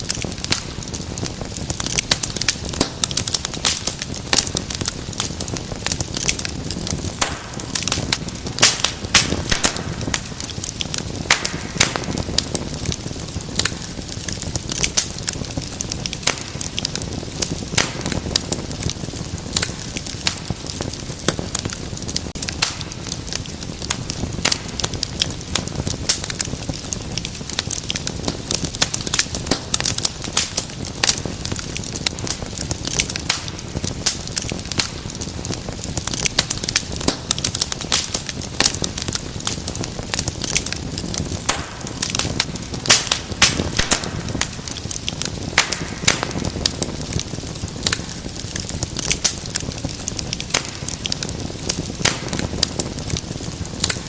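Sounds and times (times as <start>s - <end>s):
rush of flames: 0.0s - 54.0s
wood fire crackling: 0.0s - 54.0s.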